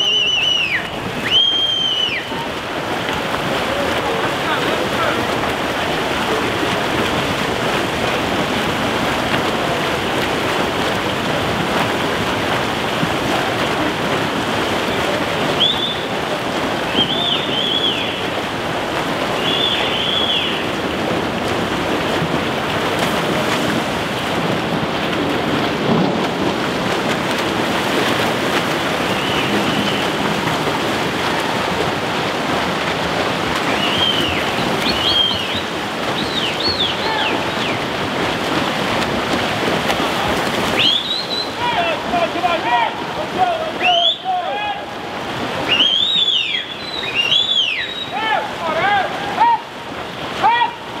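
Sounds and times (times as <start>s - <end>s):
swimmers splashing water: 0.0s - 51.0s.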